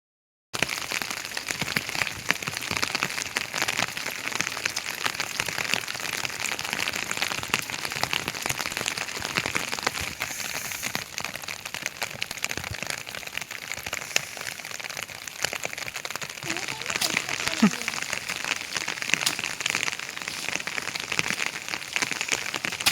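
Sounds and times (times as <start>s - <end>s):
heavy rain: 0.6s - 22.9s.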